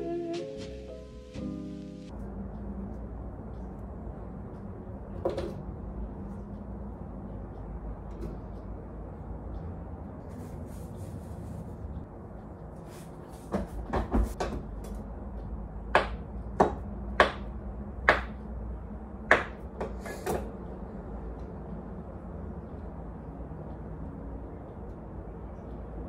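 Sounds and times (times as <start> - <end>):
low background hum: 1.4 - 26.0.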